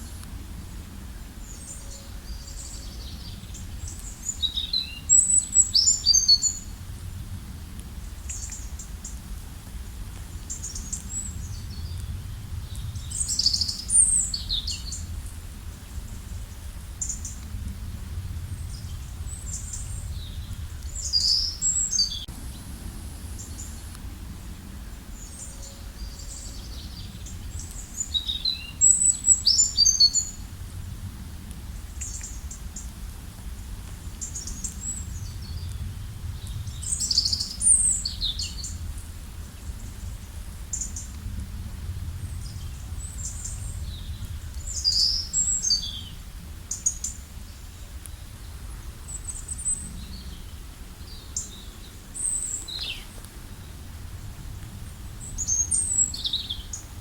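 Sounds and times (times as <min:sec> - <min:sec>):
songbirds chirping and trilling: 0:00.0 - 0:06.9, 0:10.2 - 0:30.5, 0:33.6 - 0:57.0
steady low rumble: 0:06.5 - 0:57.0.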